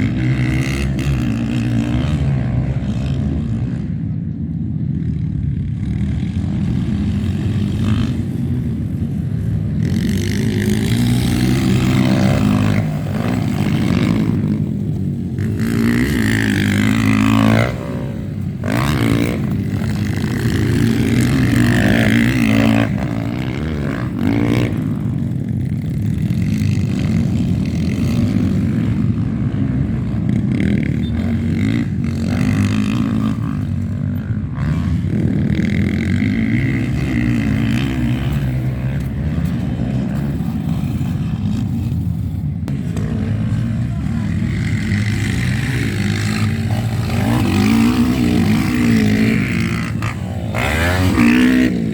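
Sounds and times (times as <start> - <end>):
motocross motorcycle engines revving: 0.0 - 51.9.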